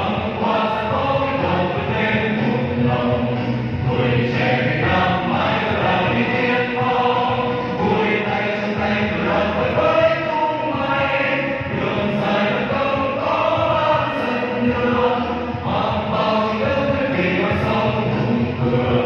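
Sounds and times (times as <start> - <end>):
choir singing through microphones: 0.0 - 19.0.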